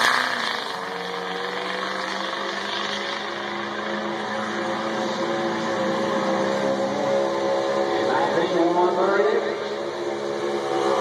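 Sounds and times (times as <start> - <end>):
diesel truck engine at full throttle: 0.0 - 11.0.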